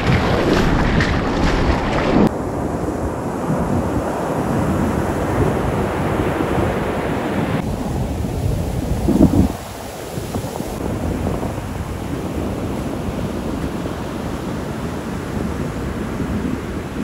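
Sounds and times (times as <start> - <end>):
surf washing up beach: 0.0 - 17.0
wind buffeting microphone: 0.0 - 17.0.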